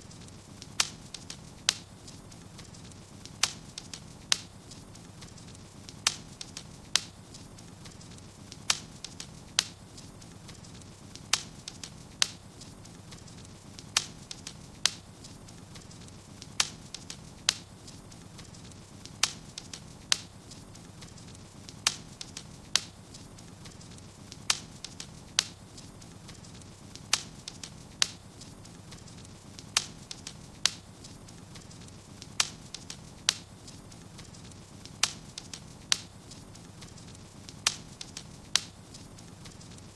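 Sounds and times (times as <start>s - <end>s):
sharp fire pops: 0.0s - 39.9s
wood fire crackling: 0.0s - 39.9s.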